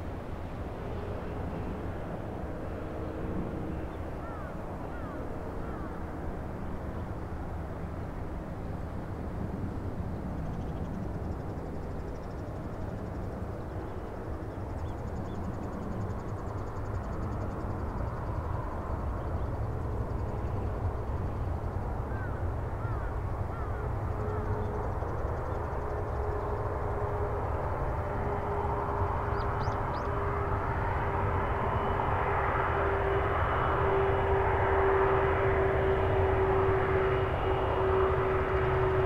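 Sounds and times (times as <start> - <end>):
jet engines rumbling: 0.0 - 39.0
steady whine: 0.0 - 39.0.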